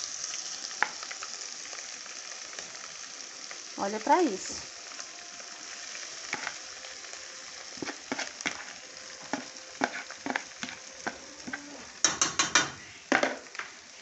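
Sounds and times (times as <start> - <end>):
chicken sizzling in a pot: 0.0 - 14.0.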